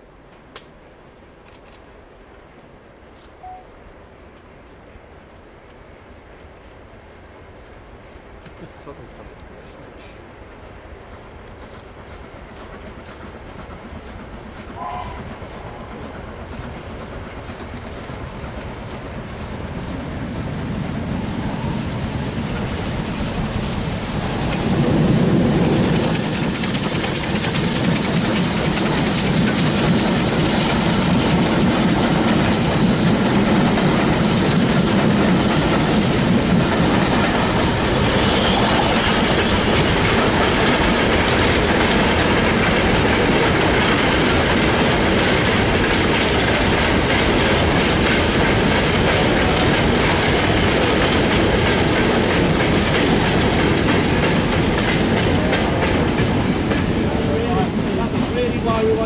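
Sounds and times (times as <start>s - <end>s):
steam train passing: 0.0s - 59.0s
wheels clacking over rail joints: 11.0s - 23.6s, 24.2s - 59.0s
freight wagons rolling past: 11.1s - 59.0s.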